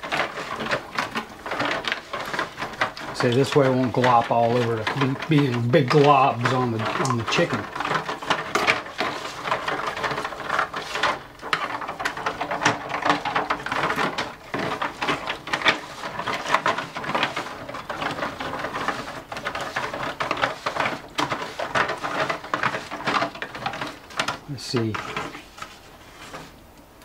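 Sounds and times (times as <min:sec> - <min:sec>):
spoon scraping foil pan: 0:00.0 - 0:26.6.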